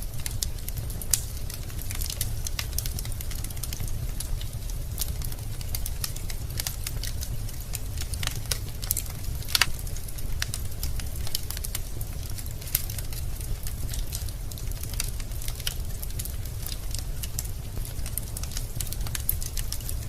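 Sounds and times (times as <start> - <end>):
burning logs popping and snapping: 0.0 - 20.0
low rumble of fire: 0.0 - 20.0.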